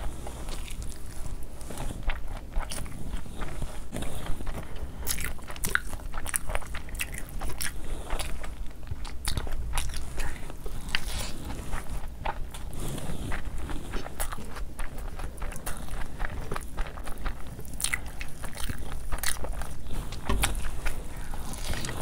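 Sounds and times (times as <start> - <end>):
person chewing and biting: 0.5 - 22.0.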